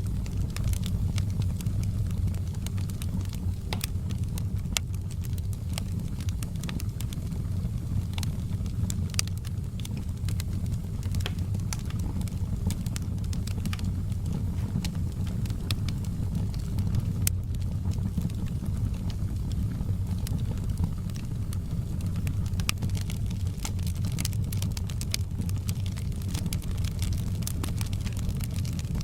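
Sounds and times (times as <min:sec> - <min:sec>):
fire pops and snaps: 0:00.0 - 0:29.0
wood fire crackling: 0:00.0 - 0:29.0.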